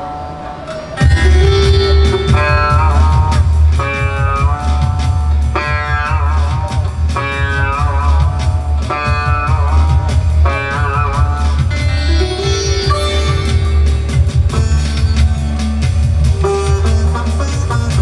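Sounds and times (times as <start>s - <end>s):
amplified sitar playing: 0.0s - 18.0s
steady low bass: 1.0s - 18.0s.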